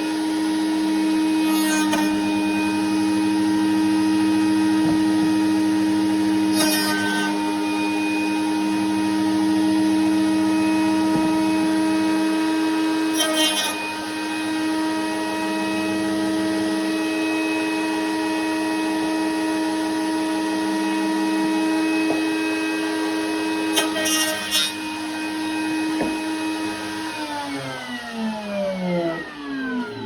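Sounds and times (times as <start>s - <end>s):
electric router whining: 0.0s - 30.0s.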